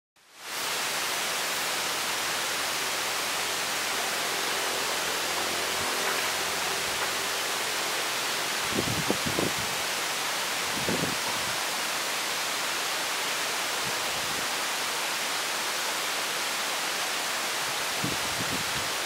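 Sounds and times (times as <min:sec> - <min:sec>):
steady hiss: 0:00.2 - 0:19.0.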